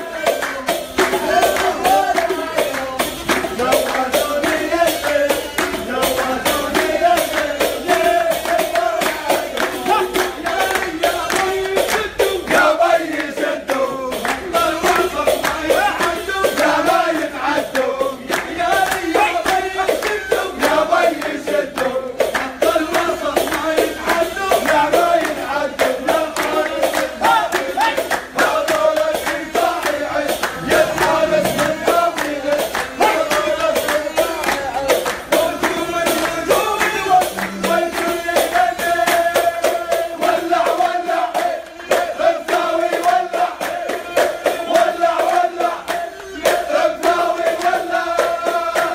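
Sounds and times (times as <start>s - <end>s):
men singing together: 0.0s - 48.9s
rhythmic hand clapping: 0.0s - 48.9s.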